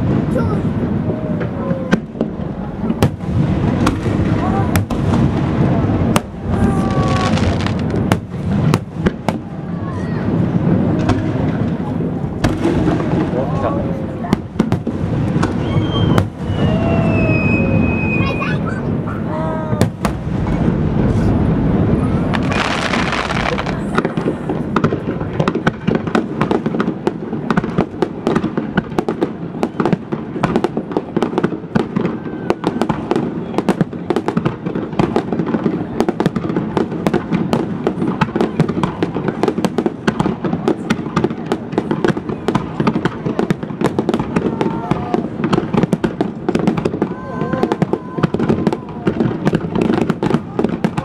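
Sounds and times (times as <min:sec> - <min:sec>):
firework booms and crackles: 0:00.0 - 0:51.0
firework hiss: 0:00.0 - 0:51.0.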